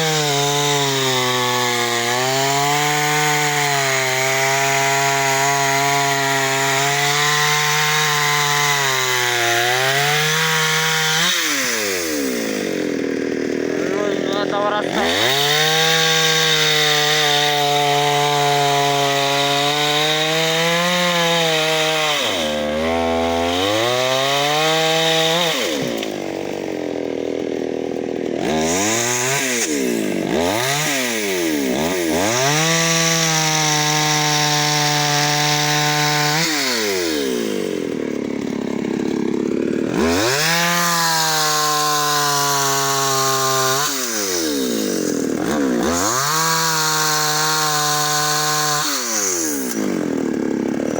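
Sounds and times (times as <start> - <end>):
chainsaw cutting tree: 0.0 - 50.9.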